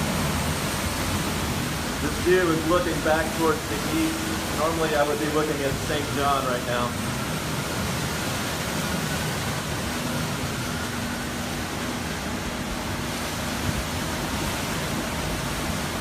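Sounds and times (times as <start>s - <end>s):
hurricane wind blowing hard: 0.0s - 16.0s.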